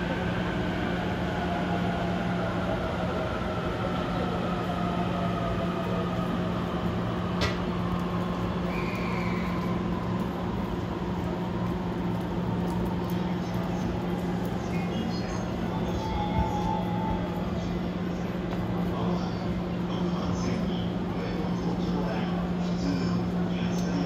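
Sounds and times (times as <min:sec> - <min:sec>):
train hum: 0:00.0 - 0:24.0.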